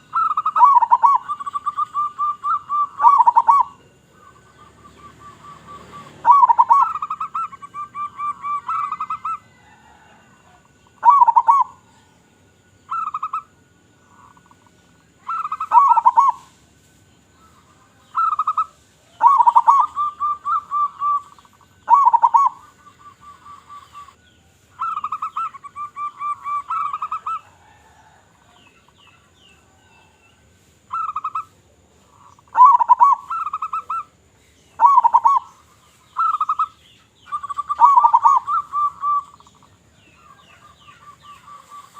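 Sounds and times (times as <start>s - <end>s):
dove cooing: 0.0s - 16.6s, 17.4s - 30.2s, 30.9s - 41.9s.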